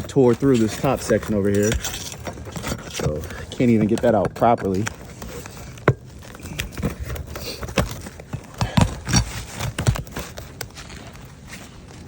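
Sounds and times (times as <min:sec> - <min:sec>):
flat bar prying under shingles: 0:00.0 - 0:10.7.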